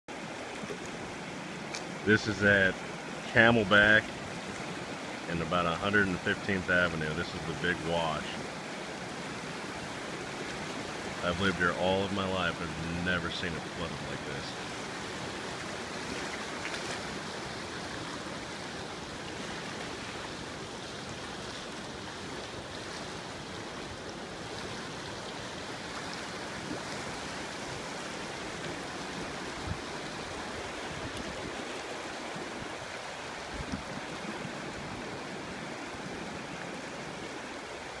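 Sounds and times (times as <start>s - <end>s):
floodwater rushing: 0.1s - 38.0s.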